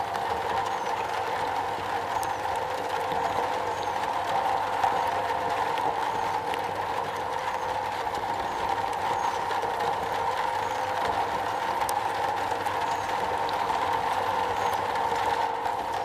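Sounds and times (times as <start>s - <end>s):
rain on metal: 0.0s - 16.0s.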